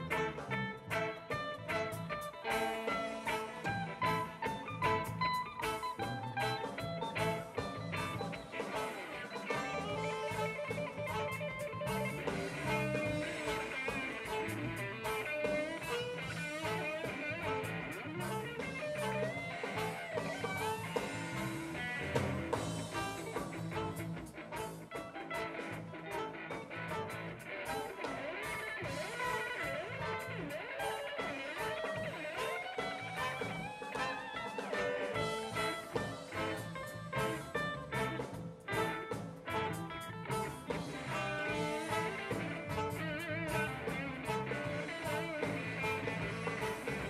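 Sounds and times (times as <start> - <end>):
bass: 0.0 - 47.0
drum kit beat: 0.0 - 47.0.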